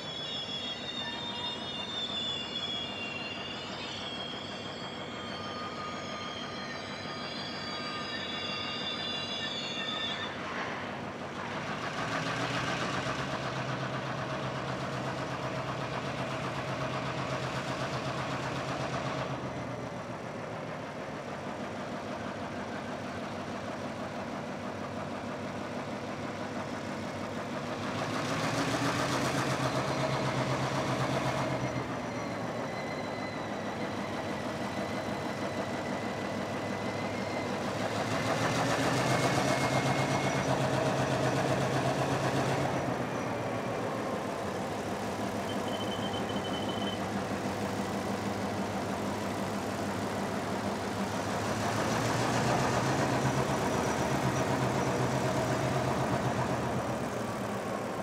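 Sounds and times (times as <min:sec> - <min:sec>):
diesel locomotive engines: 0:00.0 - 0:58.0
train wheels squealing on rails: 0:00.0 - 0:58.0
wheels rumbling: 0:06.8 - 0:58.0.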